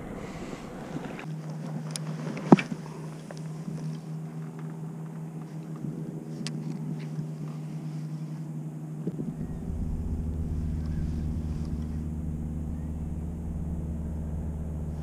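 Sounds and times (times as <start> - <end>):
low drone: 0.0 - 15.0.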